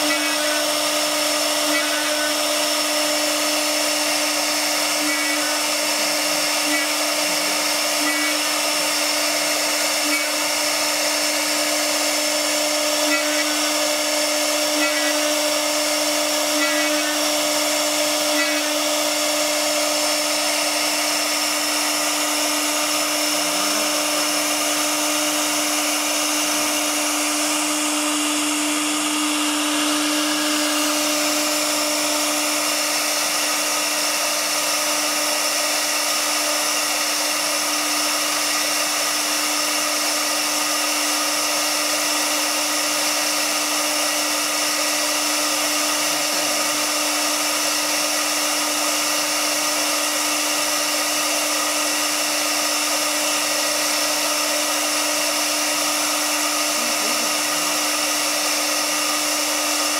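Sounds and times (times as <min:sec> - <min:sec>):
router spindle cutting board: 0:00.0 - 0:59.9.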